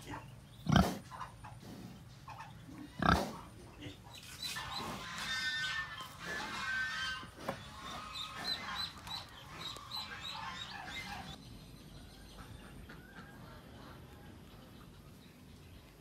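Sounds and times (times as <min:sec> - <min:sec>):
faint rural background: 0:00.0 - 0:16.0.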